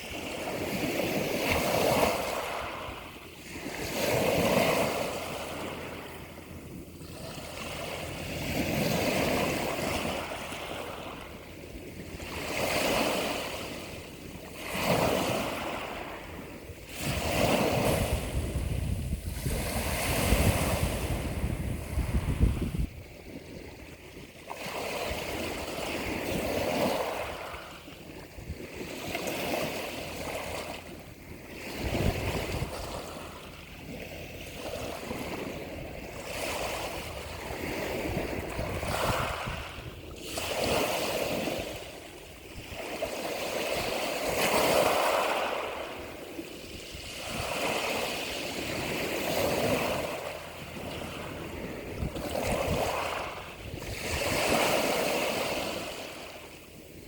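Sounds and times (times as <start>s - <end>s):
sea waves washing ashore: 0.0s - 57.0s.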